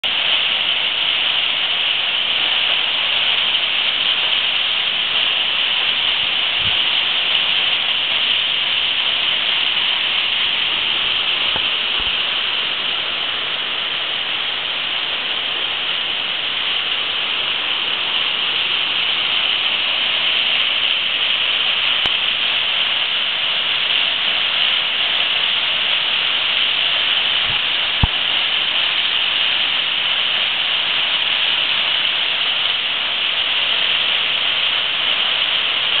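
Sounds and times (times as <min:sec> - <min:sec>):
waterfall splashing into pool: 0:00.0 - 0:36.0.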